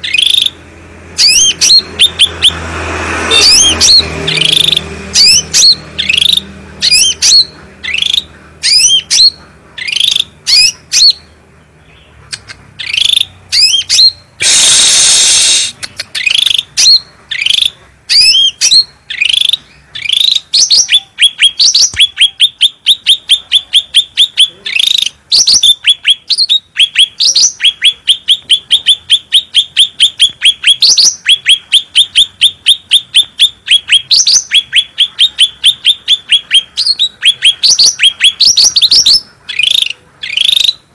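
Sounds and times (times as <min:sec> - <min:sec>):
bird harsh rasping call: 0:00.0 - 0:40.9
rapid bird chirps: 0:00.0 - 0:40.9.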